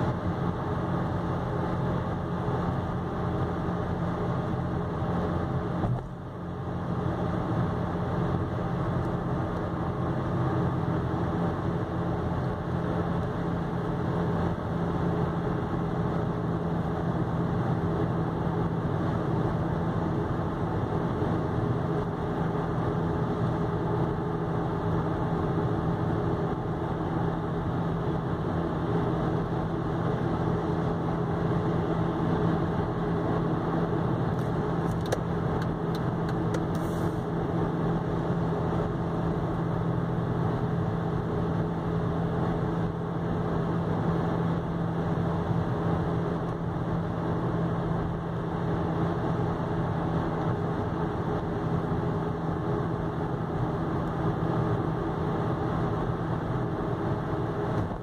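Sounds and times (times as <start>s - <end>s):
car engine drone: 0.0s - 58.0s
road and tyre noise: 0.0s - 58.0s.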